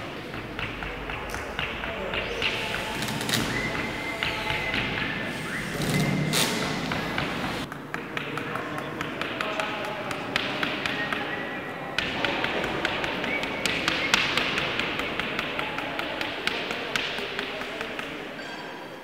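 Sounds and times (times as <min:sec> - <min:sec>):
drawing stick tapping on wall: 0:00.0 - 0:18.4.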